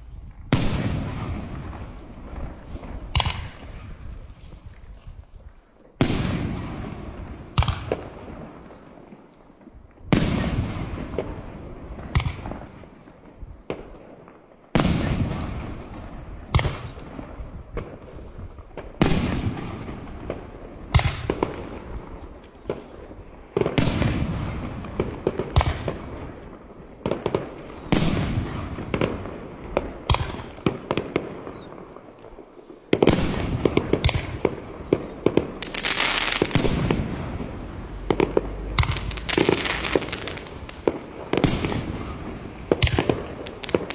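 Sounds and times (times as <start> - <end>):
fireworks banging: 0.0 - 43.9
fireworks crackling: 0.0 - 43.9.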